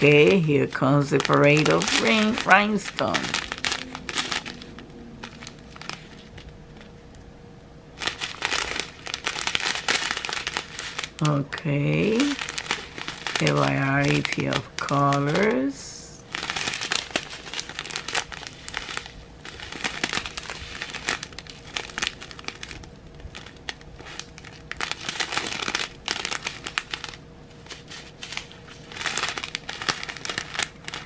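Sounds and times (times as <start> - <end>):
plastic bags crinkling: 0.0 - 7.2, 7.9 - 31.0.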